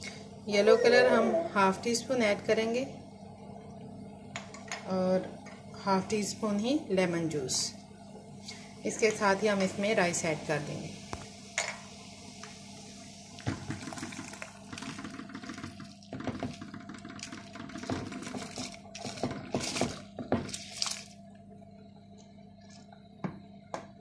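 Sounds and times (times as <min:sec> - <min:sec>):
water boiling in pot: 0:01.6 - 0:24.0.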